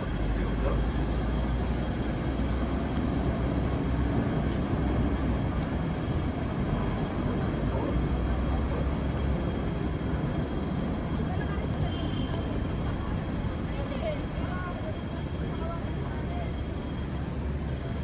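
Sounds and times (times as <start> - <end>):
tram rumbling on rails: 0.0 - 18.0.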